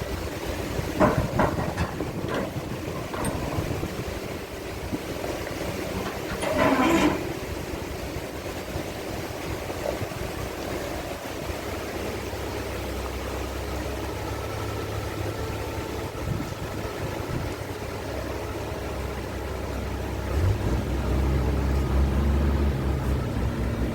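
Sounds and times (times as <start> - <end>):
road noise: 0.0 - 23.9
truck diesel engine running: 0.0 - 23.9.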